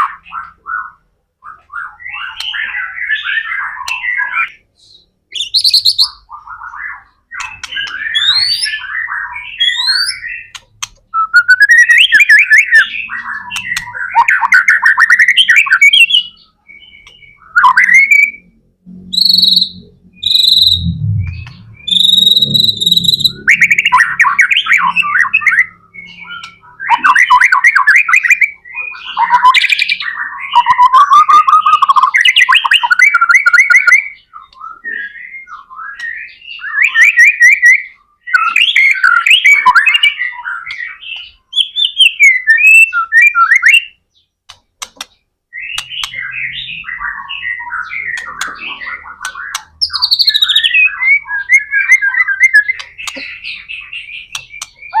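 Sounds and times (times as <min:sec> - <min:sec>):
bird singing whistled phrases: 0:01.5 - 0:44.0, 0:45.5 - 0:55.0.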